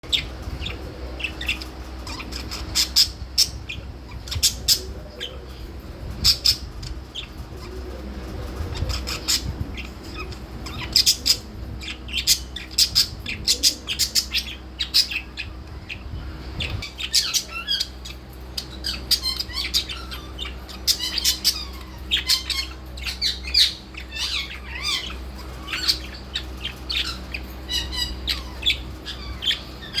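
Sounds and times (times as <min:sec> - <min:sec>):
steady low hum: 0:00.0 - 0:30.0
budgerigar chirping and chattering: 0:00.1 - 0:05.4, 0:06.2 - 0:07.9, 0:08.5 - 0:30.0.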